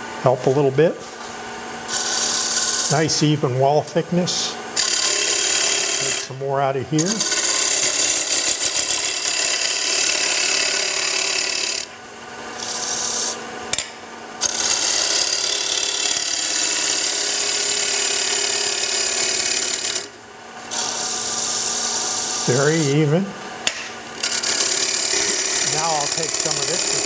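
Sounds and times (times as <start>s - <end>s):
lathe humming: 0.0s - 27.0s
gouge shearing wood on a lathe: 1.9s - 11.9s, 12.6s - 13.4s, 14.4s - 23.1s, 24.2s - 27.0s.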